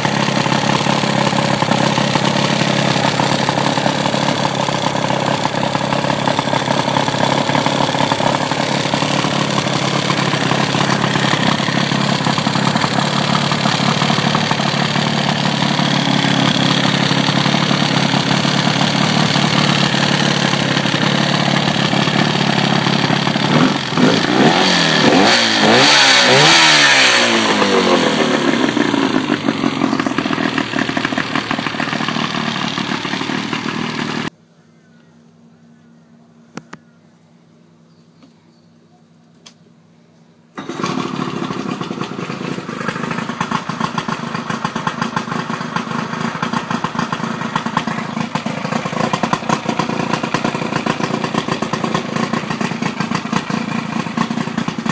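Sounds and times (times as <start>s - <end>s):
outboard motor idling and revving: 0.0s - 34.3s, 40.6s - 54.9s.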